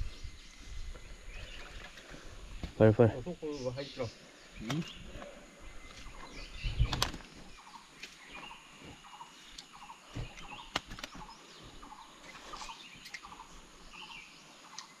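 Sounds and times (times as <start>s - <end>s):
wild birds calling: 0.0s - 15.0s.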